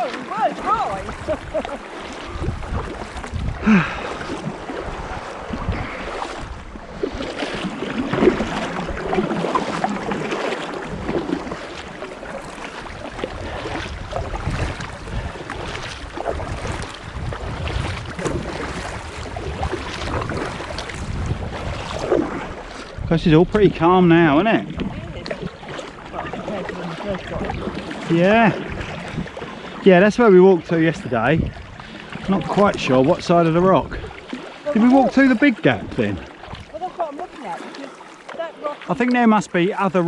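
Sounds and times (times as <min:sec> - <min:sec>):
wind buffeting microphone: 0:00.0 - 0:29.8, 0:30.6 - 0:37.6
kayak paddles splashing: 0:00.0 - 0:40.0.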